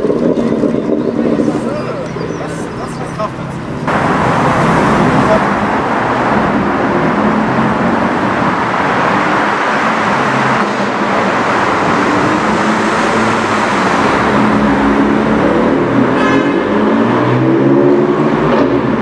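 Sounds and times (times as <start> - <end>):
car engine driving: 0.0 - 19.0
traffic noise: 0.0 - 19.0.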